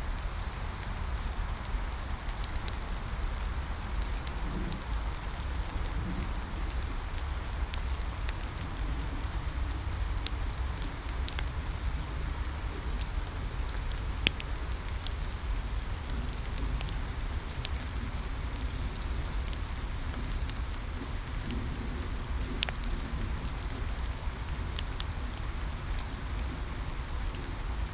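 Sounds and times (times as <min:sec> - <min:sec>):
steady rain falling: 0:00.0 - 0:27.9
bonfire pops and crackles: 0:00.2 - 0:27.9.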